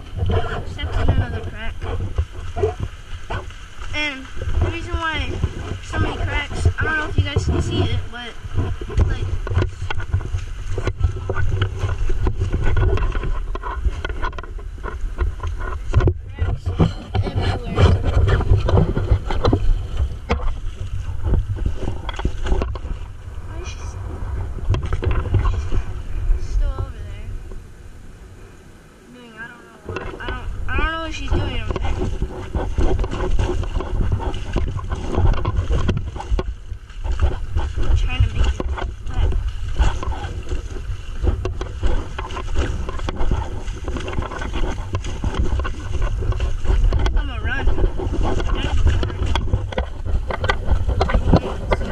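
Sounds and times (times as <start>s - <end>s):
low buffeting rumble: 0.0s - 51.9s
water splashing and sloshing: 0.0s - 51.9s.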